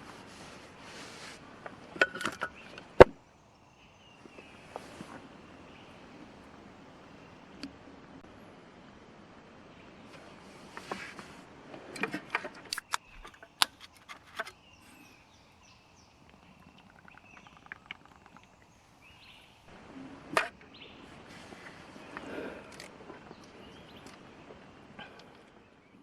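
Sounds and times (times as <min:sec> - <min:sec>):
faint bird calls: 0:00.0 - 0:07.6, 0:12.4 - 0:26.0.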